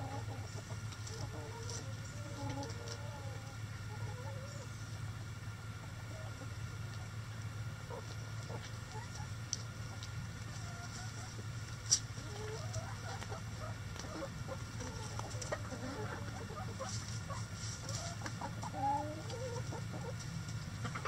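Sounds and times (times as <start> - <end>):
chickens clucking: 0.0 - 21.0
steady low hum: 0.0 - 21.0.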